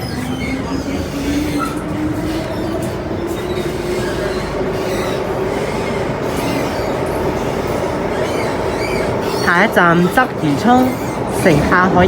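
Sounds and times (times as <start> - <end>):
traction motors whining: 0.0 - 12.0
wheel and rail rumble: 0.0 - 12.0.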